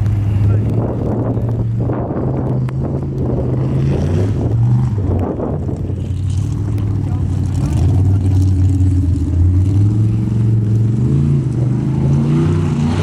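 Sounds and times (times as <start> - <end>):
truck engine revving: 0.0 - 13.0
wind noise on microphone: 0.0 - 13.0.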